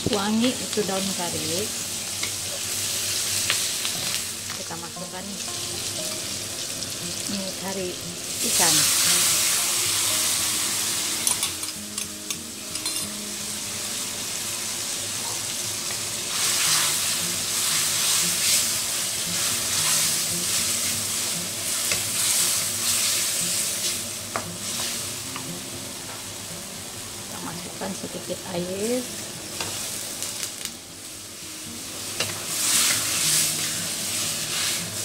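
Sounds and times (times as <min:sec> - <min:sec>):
curry paste sizzling in wok: 0:00.0 - 0:35.0.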